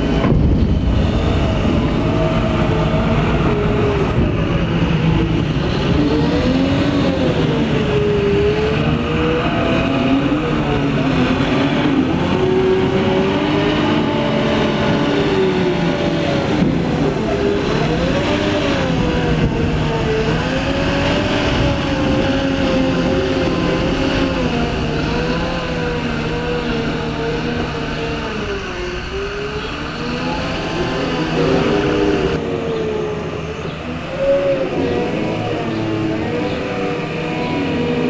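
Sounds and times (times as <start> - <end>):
diesel engine revving under load: 0.0 - 38.0.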